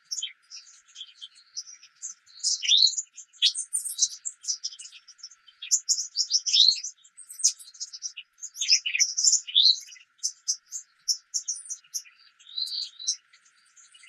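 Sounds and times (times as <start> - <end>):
songbirds chirping and whistling: 0.0 - 14.0.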